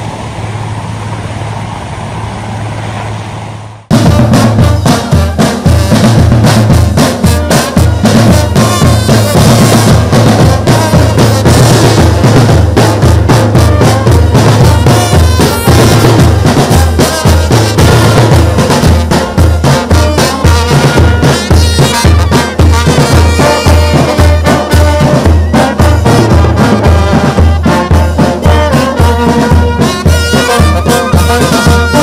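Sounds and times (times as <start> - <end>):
music with heavy drum beat: 3.9 - 32.0.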